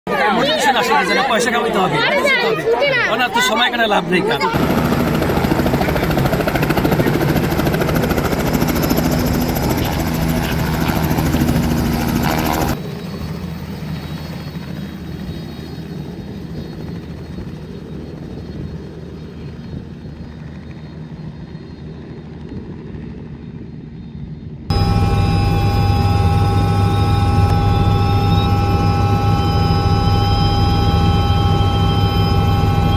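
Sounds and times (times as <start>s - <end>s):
helicopter rotor beating: 0.1s - 32.9s.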